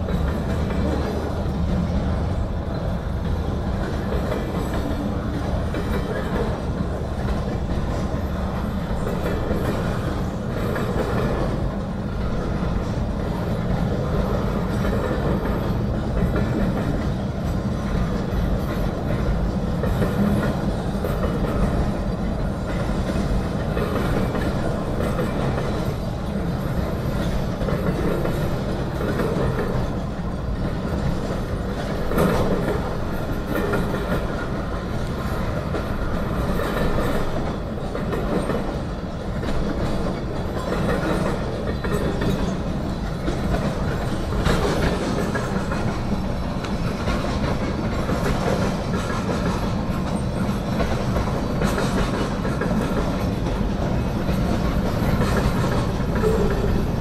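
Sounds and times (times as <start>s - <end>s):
clickety-clack over rail joints: 0.0s - 57.0s
train wheels rumbling on rail: 0.0s - 57.0s.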